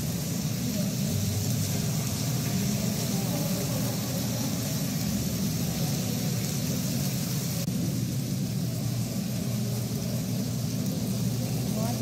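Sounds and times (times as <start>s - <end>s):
floodwater rushing across floor: 0.0s - 12.0s.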